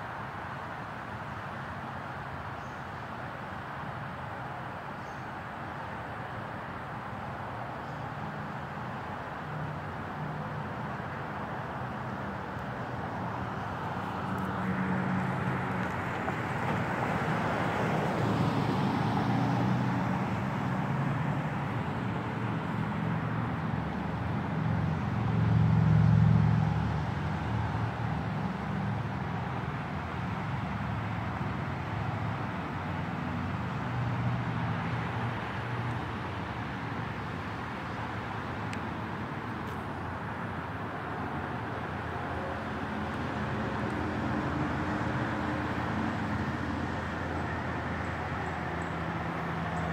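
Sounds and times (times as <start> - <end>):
street traffic noise: 0.0 - 49.9.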